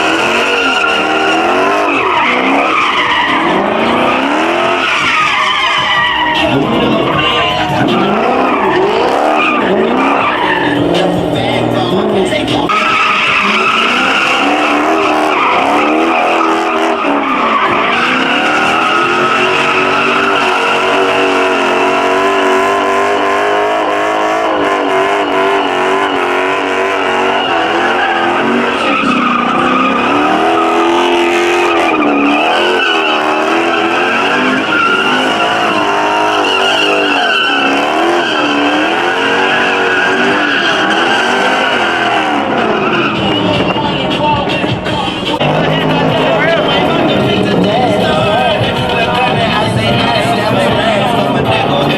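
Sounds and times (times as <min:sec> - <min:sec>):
car engine revving hard: 0:00.0 - 0:51.9
tires screeching: 0:00.0 - 0:51.9.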